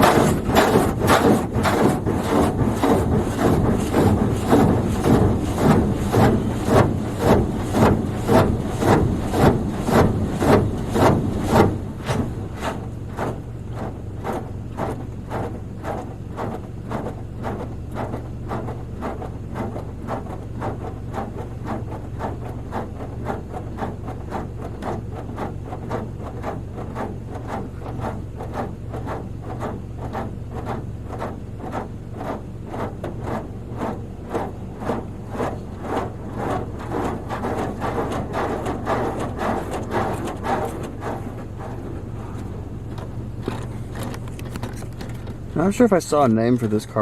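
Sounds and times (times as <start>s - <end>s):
machine low hum: 0.0s - 47.0s
water jets striking car: 0.0s - 47.0s.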